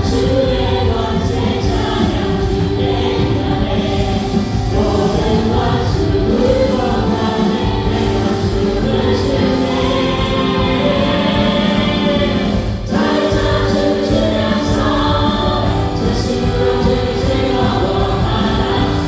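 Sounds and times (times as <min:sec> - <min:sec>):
praise band playing: 0:00.0 - 0:19.0
voices singing along: 0:00.0 - 0:19.0.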